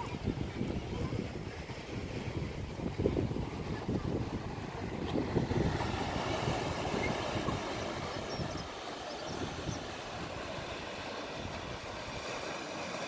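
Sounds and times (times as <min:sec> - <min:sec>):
wind rumbling on microphone: 0:00.0 - 0:12.6
surf breaking on beach: 0:00.0 - 0:13.0.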